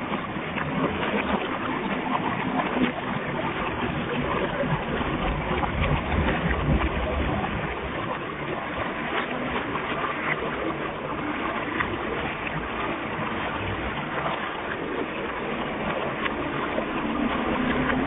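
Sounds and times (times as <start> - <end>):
toilet water running: 0.0 - 18.0.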